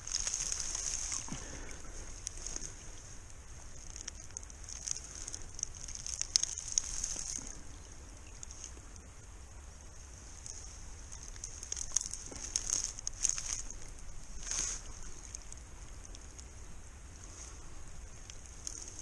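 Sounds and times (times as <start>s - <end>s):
hands rustling in wet reeds: 0.0s - 19.0s
light water splashes: 0.0s - 19.0s
steady high hiss: 0.0s - 19.0s.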